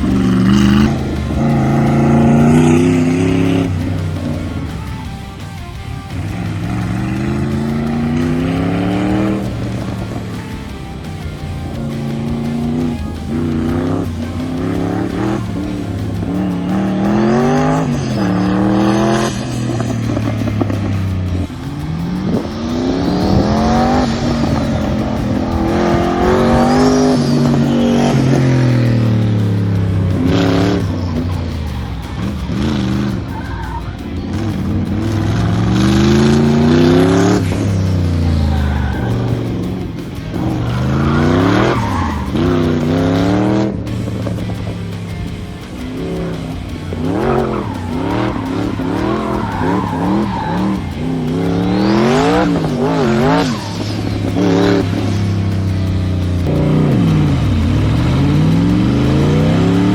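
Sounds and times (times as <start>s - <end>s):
car engine revving: 0.0s - 59.9s
tires squealing: 0.0s - 59.9s.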